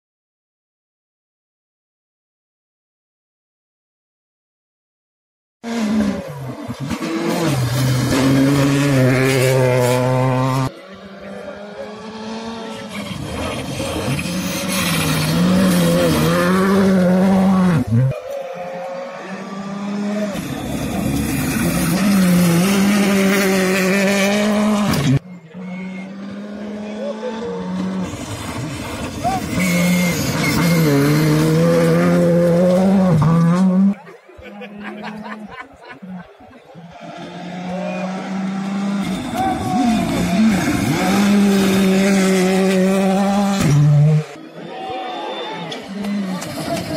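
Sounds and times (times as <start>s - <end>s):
rally car engine at high revs: 5.6s - 34.0s, 36.2s - 44.5s, 45.7s - 46.9s.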